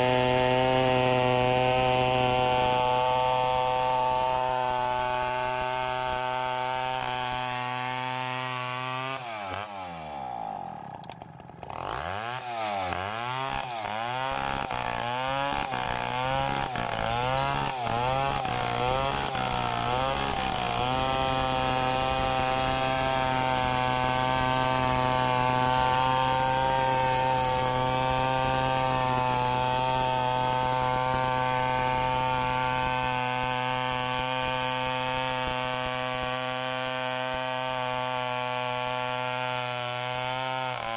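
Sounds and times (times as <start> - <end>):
chainsaw revving and cutting log: 0.0 - 40.9.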